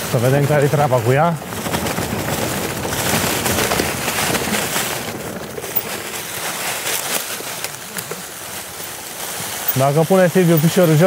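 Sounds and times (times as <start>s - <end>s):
bike knocking and rattling: 0.0s - 11.0s
mountain bike riding on dirt trail: 0.0s - 11.0s.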